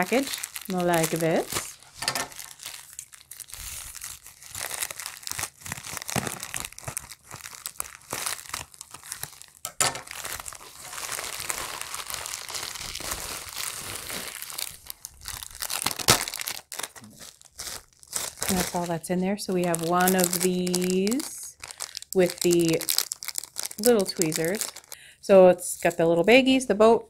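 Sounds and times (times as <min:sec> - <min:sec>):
bubble wrap mailer crinkling: 0:00.0 - 0:26.6.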